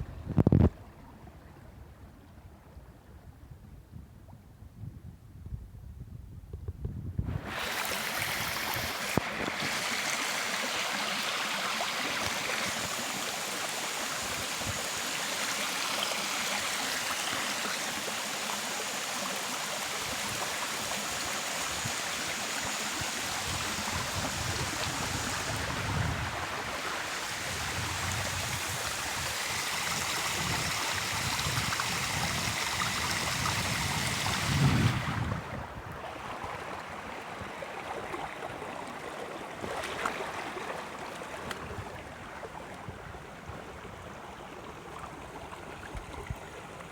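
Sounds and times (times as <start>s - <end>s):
stream water rushing: 7.3s - 46.9s.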